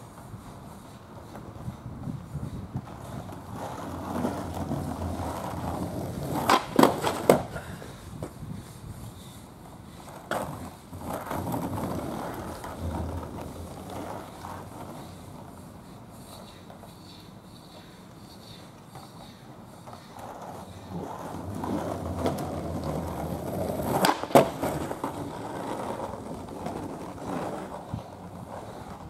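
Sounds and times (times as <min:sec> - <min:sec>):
skateboard clacks: 0:00.0 - 0:08.4, 0:09.6 - 0:29.0
skateboard wheels rolling on asphalt: 0:00.0 - 0:29.0.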